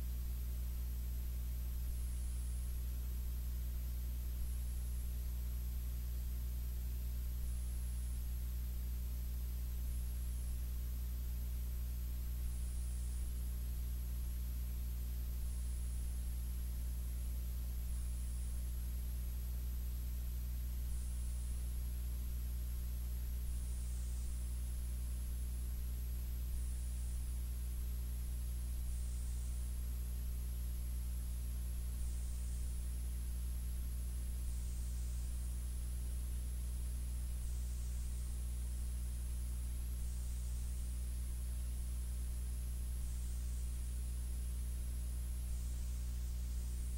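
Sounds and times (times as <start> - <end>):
electrical mains hum: 0.0 - 46.9
faint high whine: 0.0 - 46.9
faint hiss: 0.0 - 46.9.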